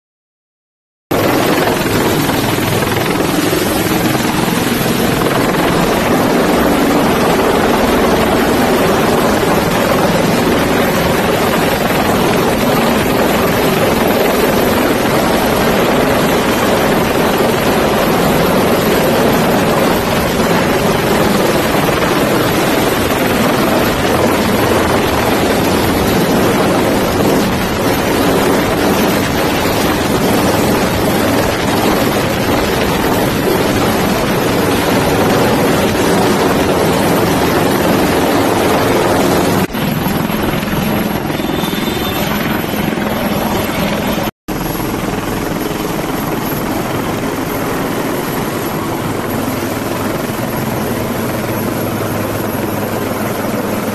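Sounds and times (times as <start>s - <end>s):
helicopter rotor and turbine noise: 1.1s - 53.9s.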